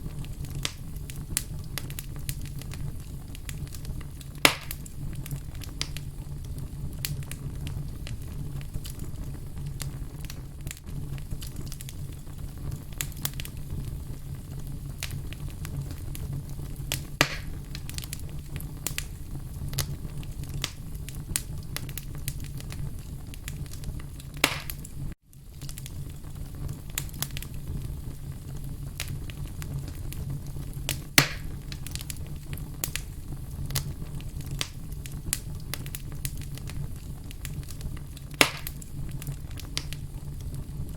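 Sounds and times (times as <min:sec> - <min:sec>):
burning wood crackling and popping: 0:00.0 - 0:40.9
fire rumbling: 0:00.0 - 0:40.9.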